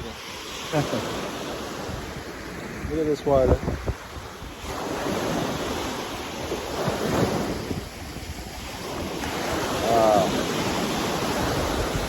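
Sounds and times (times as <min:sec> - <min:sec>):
small waves breaking on sand: 0:00.0 - 0:12.0
wind buffeting microphone: 0:01.2 - 0:12.0.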